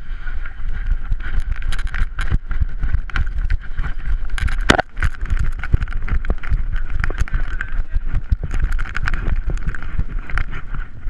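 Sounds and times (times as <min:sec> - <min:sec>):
wind rumble on microphone: 0:00.0 - 0:11.0
camera knocks and scuffs: 0:01.1 - 0:10.9.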